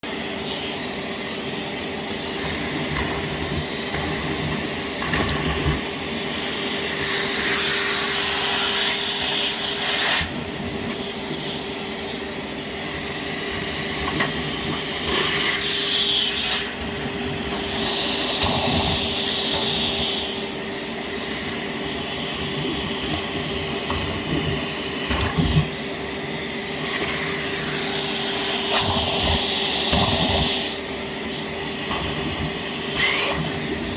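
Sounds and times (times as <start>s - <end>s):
wet dry vacuum running: 0.0s - 33.9s.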